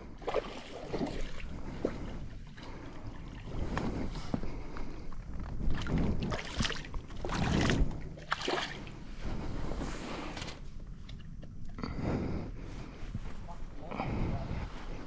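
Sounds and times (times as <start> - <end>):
water sloshing around a boat: 0.0 - 15.0.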